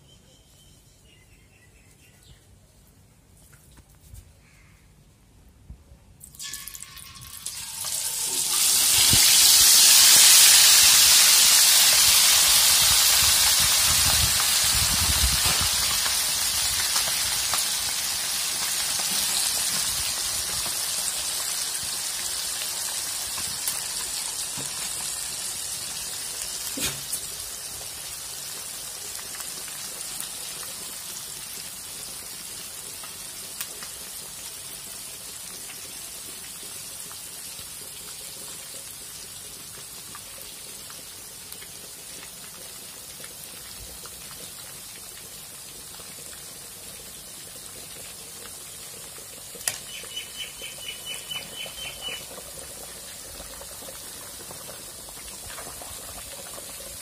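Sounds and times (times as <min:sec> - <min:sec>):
food sizzling in hot oil: 0:06.2 - 0:57.0.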